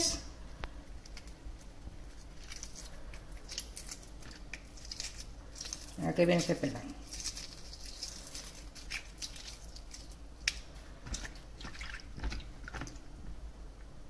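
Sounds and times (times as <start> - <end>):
egg shell peeling crackles: 0.4 - 13.5.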